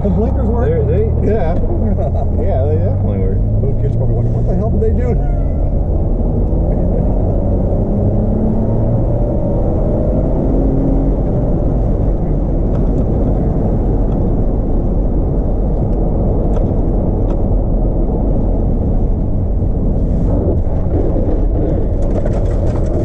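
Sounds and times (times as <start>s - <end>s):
engine and tyres rumbling on gravel: 0.0s - 23.0s.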